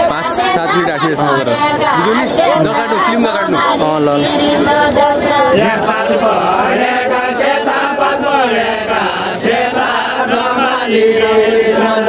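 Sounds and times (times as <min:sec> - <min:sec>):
group singing folk song: 0:00.0 - 0:12.0.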